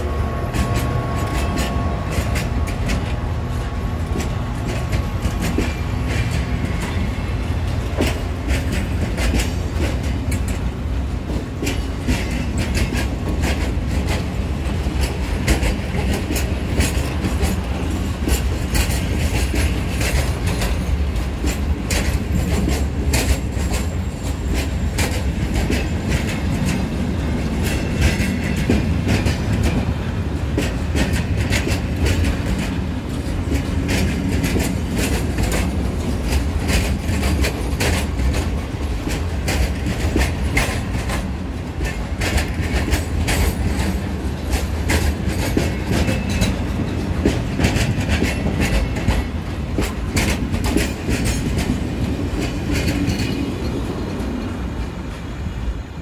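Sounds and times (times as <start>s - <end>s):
train wheels clattering over rail joints: 0.0s - 55.6s
low train rumble: 0.0s - 56.0s.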